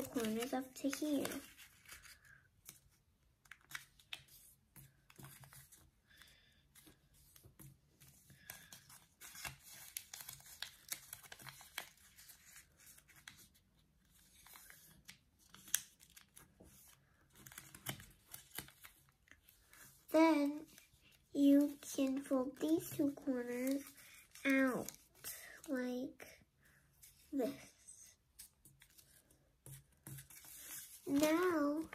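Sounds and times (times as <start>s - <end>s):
paper rustling while folded: 0.0s - 26.3s, 27.0s - 31.9s.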